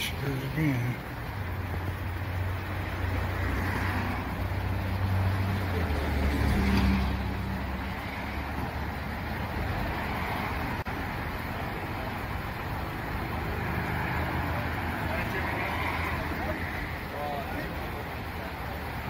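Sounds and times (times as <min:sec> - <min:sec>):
low engine hum: 0:00.0 - 0:19.0
vehicle passing: 0:00.0 - 0:19.0.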